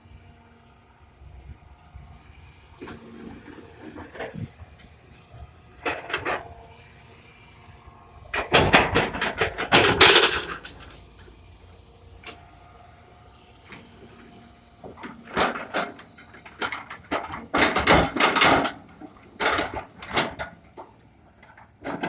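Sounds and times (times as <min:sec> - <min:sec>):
excavator clanking and scraping: 0:02.8 - 0:22.0.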